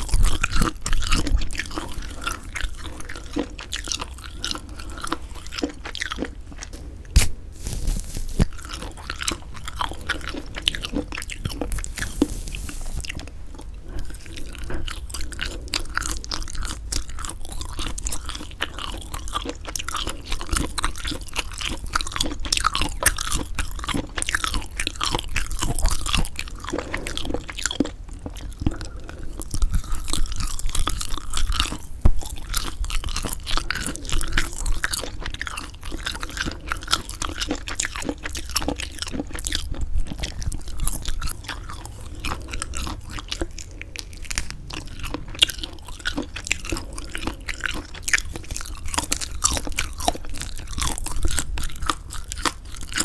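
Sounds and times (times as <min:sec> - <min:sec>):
wet rubbery chewing: 0:00.0 - 0:53.0.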